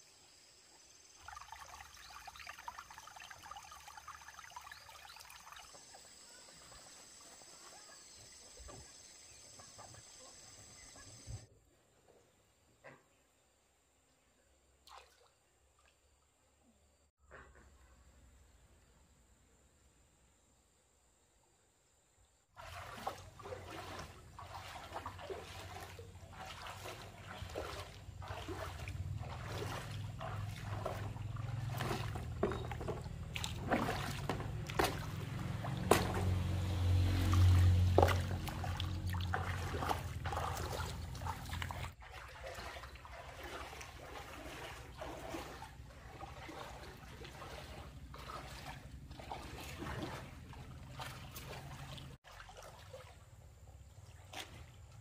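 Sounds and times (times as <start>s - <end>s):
water splashing and trickling: 1.0s - 11.4s, 14.8s - 16.3s, 22.6s - 55.0s.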